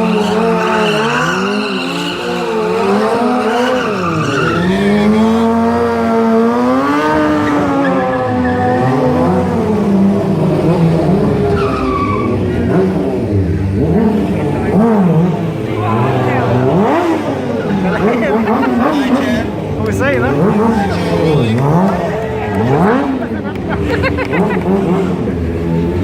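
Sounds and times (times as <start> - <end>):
motorcycle engine revving: 0.0 - 26.0
tyres skidding on pavement: 0.0 - 26.0.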